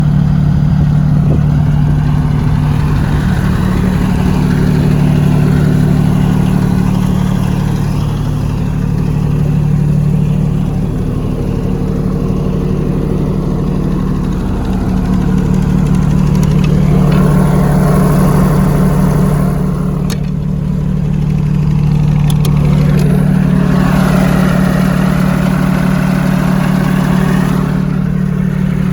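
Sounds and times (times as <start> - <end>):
diesel generator drone: 0.0 - 28.9.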